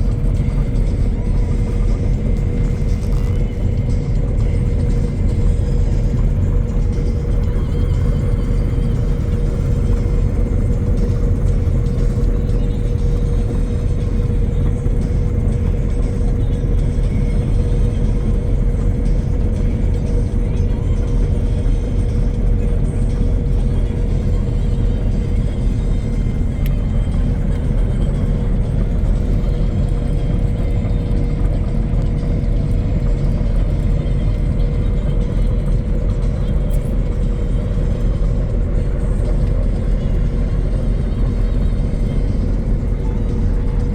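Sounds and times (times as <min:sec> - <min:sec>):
steady whine: 0:00.0 - 0:43.9
tractor engine running: 0:00.0 - 0:43.9.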